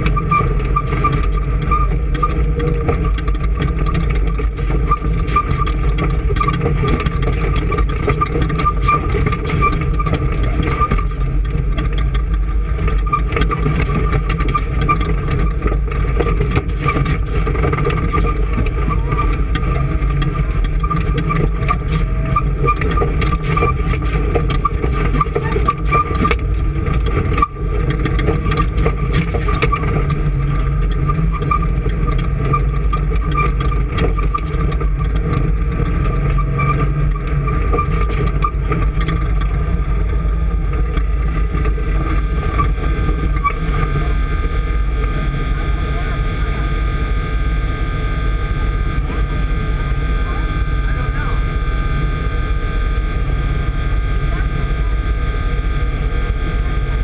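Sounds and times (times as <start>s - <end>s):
engine running steadily: 0.0s - 57.0s
engine whine: 0.0s - 57.0s
fast ticking clatter: 0.0s - 57.0s.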